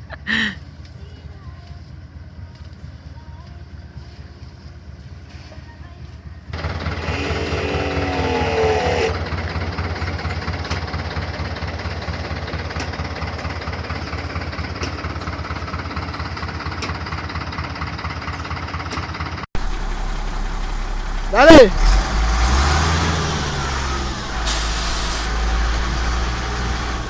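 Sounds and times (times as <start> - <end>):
large engine rumbling: 0.0 - 27.0.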